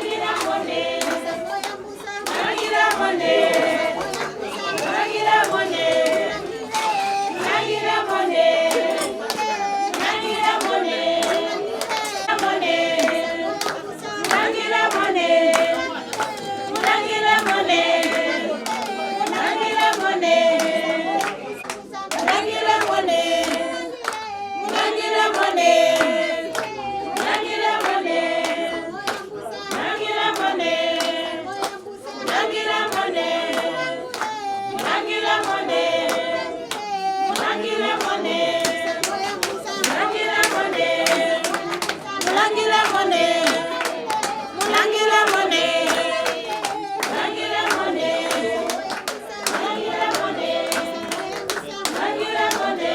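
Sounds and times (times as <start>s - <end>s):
group of people singing: 0.0s - 52.9s
rhythmic hand clapping: 0.0s - 52.9s.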